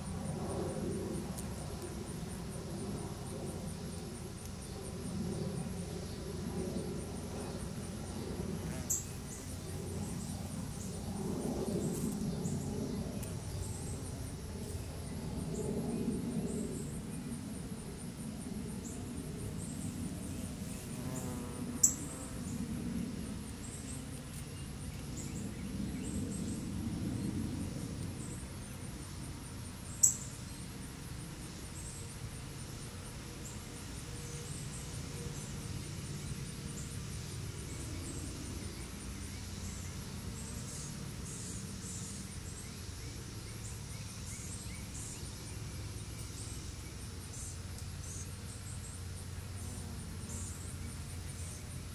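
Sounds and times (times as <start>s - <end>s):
high-pitched pulsing insect chorus: 0.0s - 51.9s.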